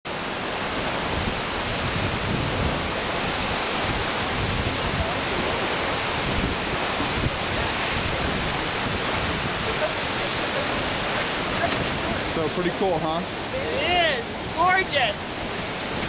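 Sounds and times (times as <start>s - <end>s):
waterfall rushing: 0.1s - 16.0s.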